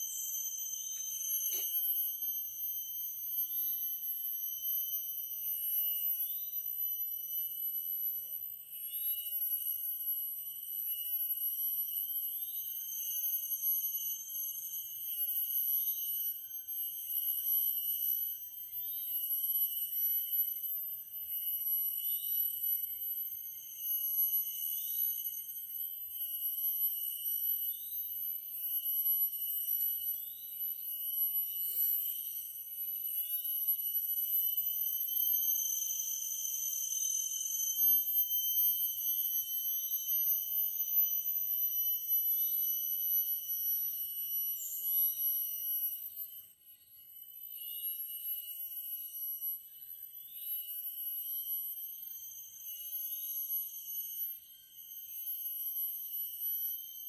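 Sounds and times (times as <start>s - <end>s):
insects droning: 0.0s - 57.0s
rising insect chirp: 0.0s - 57.0s.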